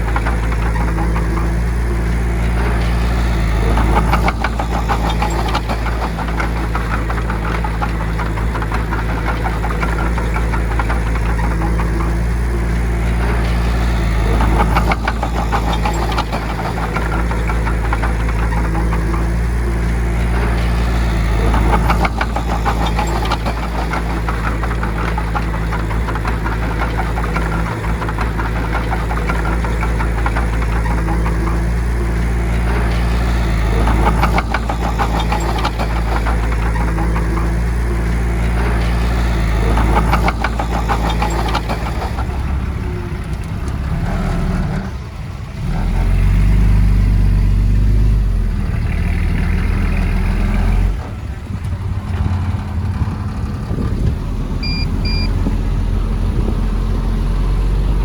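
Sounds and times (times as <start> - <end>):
mechanical rattle: 0.0 - 47.2
bulldozer diesel engine: 0.0 - 58.0.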